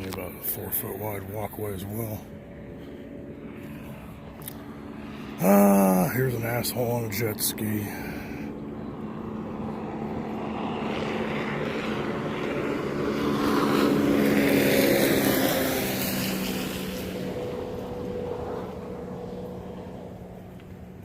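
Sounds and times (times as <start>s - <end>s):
jet ski engine passing: 0.0s - 21.0s.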